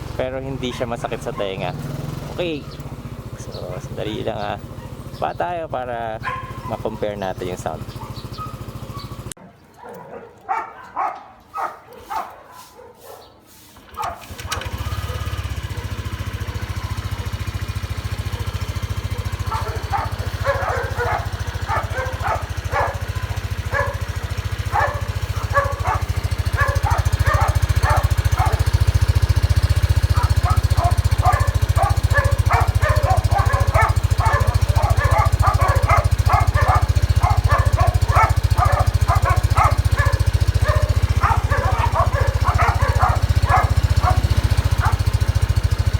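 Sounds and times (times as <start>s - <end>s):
motorcycle engine idling: 0.0s - 9.4s, 13.8s - 45.9s
dog barking: 0.6s - 5.2s, 6.2s - 45.9s.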